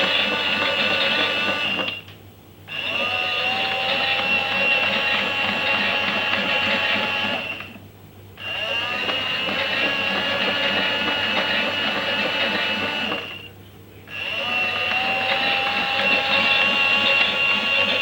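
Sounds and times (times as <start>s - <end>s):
toy washing machine motor whine: 0.0s - 2.0s, 2.7s - 7.8s, 8.4s - 13.5s, 14.1s - 18.0s.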